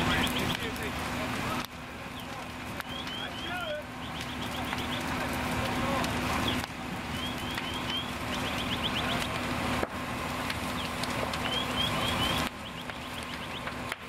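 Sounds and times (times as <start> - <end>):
fire engine humming: 0.0 - 14.0
house fire crackling: 0.0 - 14.0.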